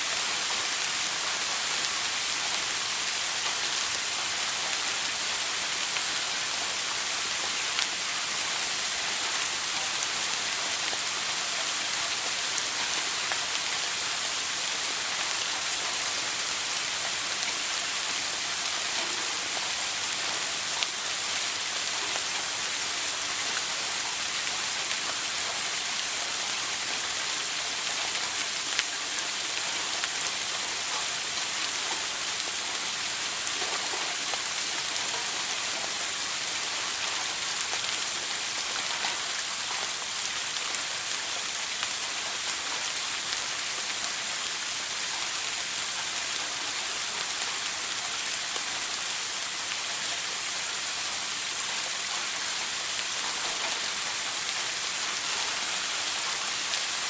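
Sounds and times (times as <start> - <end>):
shower water running: 0.0 - 57.0.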